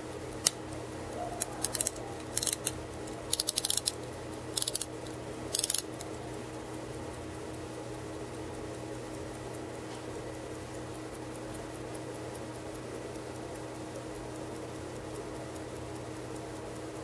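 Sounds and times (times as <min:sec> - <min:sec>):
pocket watch ticking: 0:00.0 - 0:17.0.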